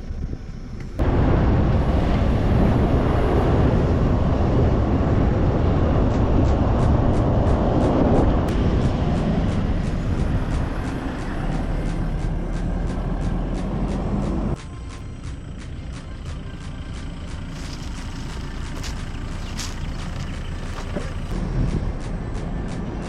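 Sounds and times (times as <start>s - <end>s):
car engine working hard: 0.0s - 23.0s
tyres rumbling through sand: 1.0s - 23.0s.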